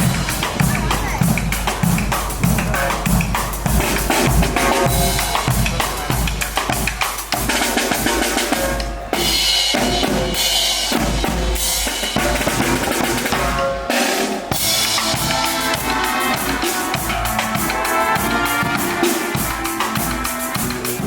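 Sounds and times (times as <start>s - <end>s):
music with drum-kit beat: 0.0s - 21.0s.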